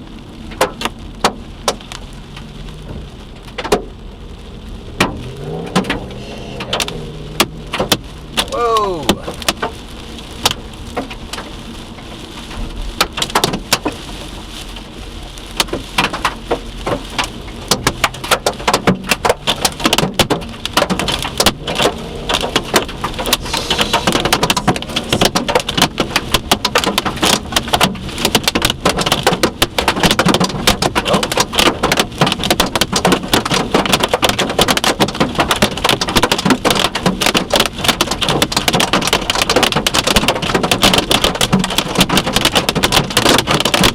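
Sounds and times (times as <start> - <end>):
hail pelting car body and glass: 0.0 - 43.9
rain-like hiss: 0.0 - 43.9.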